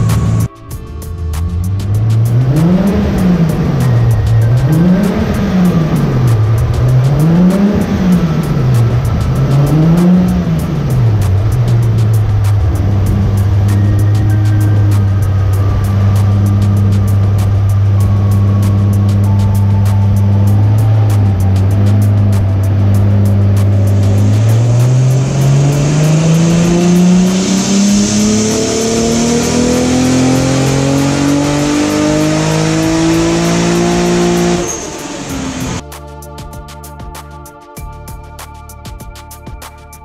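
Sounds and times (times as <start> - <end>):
car engine idling: 0.0 - 35.9
music playing: 0.0 - 40.0.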